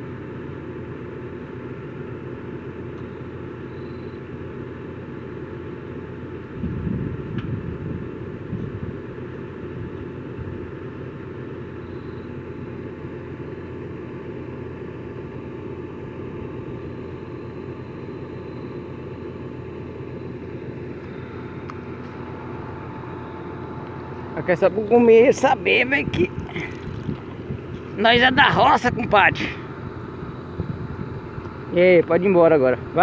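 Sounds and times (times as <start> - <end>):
low mechanical hum: 0.0 - 33.0
thin steady whine: 0.0 - 33.0.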